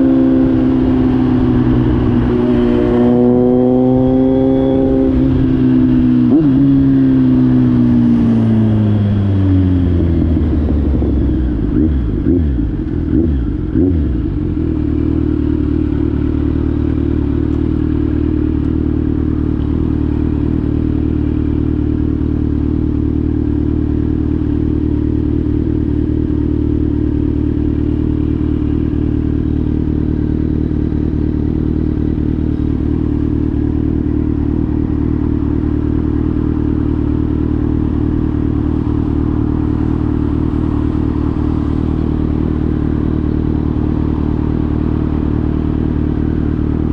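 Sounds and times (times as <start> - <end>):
motorcycle engine idling: 0.0 - 46.9
motorcycle throttle blips: 0.0 - 46.9.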